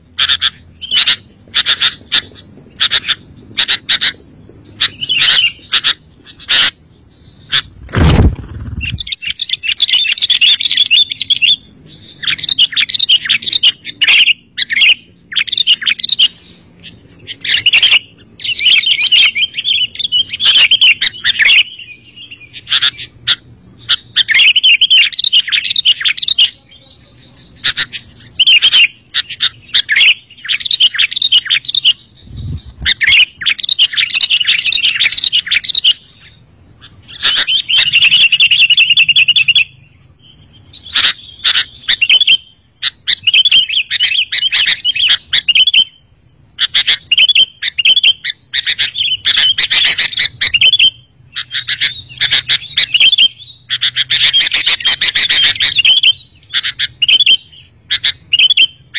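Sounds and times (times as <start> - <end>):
birds chattering: 0.0 - 58.9.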